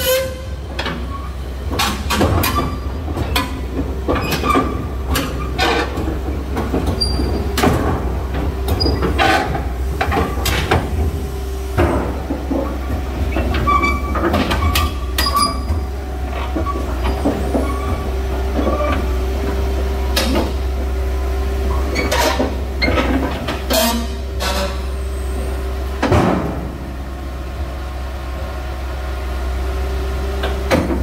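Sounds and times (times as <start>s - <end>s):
steel tracks clanking and squealing: 0.0s - 26.9s
diesel engine running: 0.0s - 31.0s.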